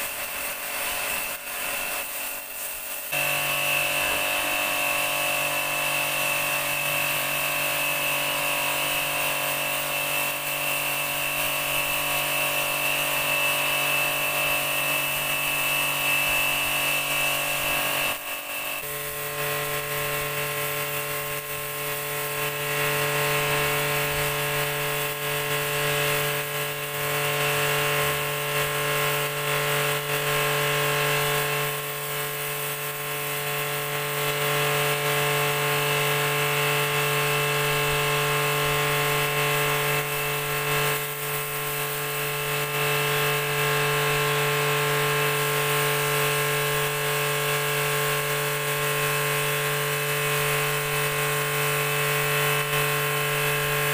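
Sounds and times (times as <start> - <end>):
pressure washer pump humming: 0.0 - 53.9
water jet hissing on concrete: 0.0 - 53.9.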